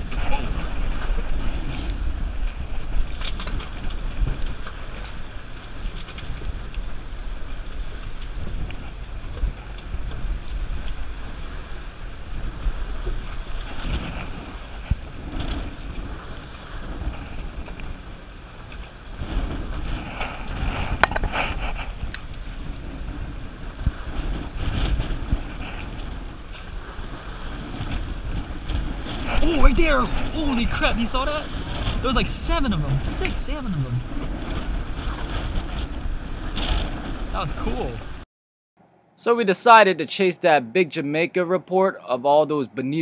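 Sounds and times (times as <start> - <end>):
boat low rumble: 0.0 - 38.2
wind buffeting microphone: 0.0 - 38.2.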